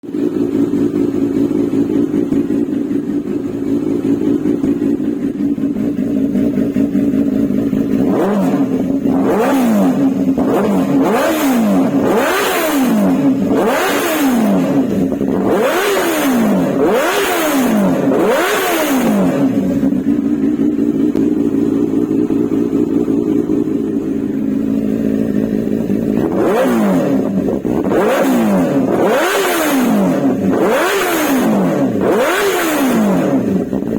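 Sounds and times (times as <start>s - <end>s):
motorcycle engine idling: 0.0s - 33.9s
motorcycle throttle blips: 0.1s - 33.9s.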